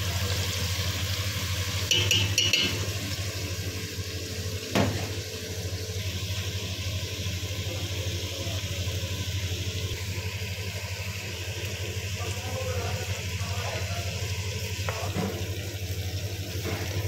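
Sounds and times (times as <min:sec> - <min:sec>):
hot oil sizzling in a pot: 0:00.0 - 0:17.0.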